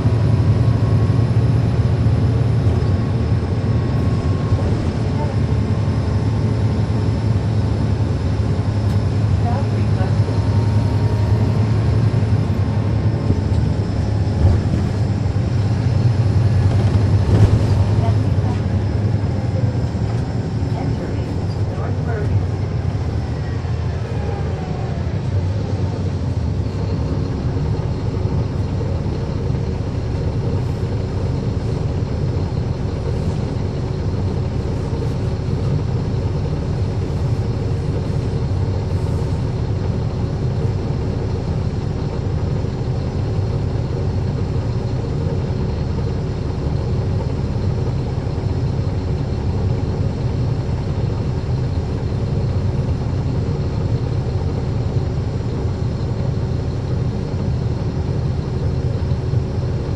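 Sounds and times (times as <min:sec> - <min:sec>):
diesel bus engine rumble: 0:00.0 - 0:59.9.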